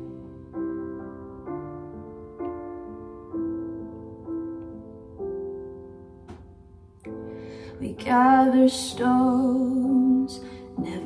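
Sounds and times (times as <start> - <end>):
piano playing slow chords: 0.0 - 11.0.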